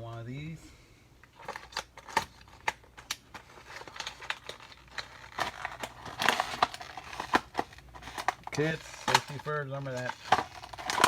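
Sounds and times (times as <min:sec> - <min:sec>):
plastic blister pack tearing: 0:01.4 - 0:11.0.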